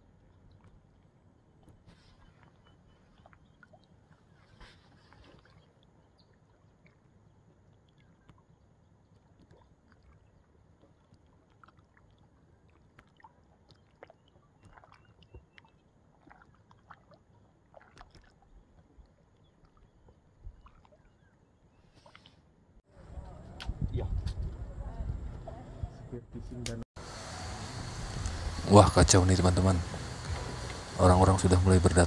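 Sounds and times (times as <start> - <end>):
water lapping on rocks: 0.4 - 21.1, 27.0 - 32.0.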